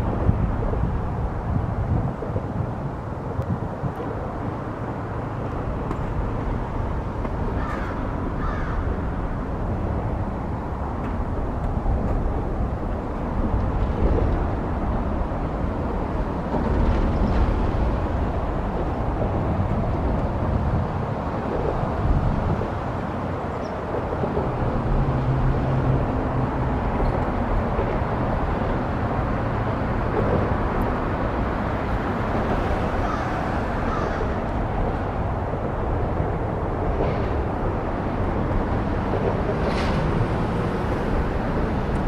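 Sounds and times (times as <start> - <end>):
highway traffic rumble: 0.0 - 42.0.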